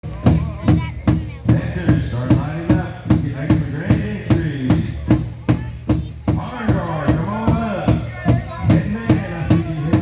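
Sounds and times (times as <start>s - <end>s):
large drum beating: 0.0s - 10.0s.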